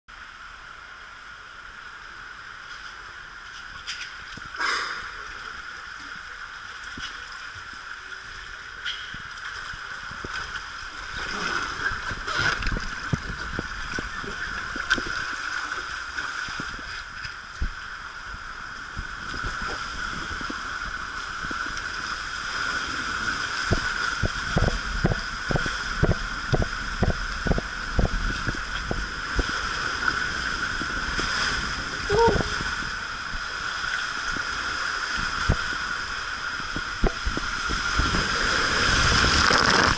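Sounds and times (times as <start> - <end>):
water rushing through slide tube: 4.4 - 39.9.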